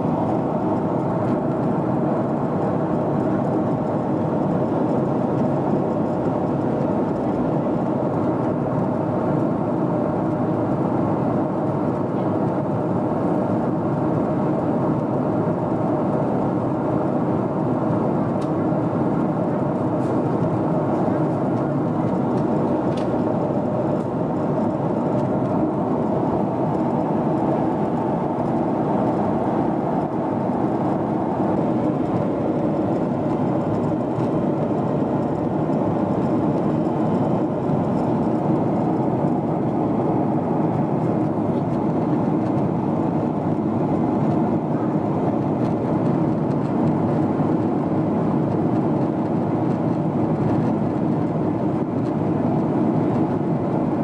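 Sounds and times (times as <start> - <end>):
jet engines humming: 0.0 - 54.0.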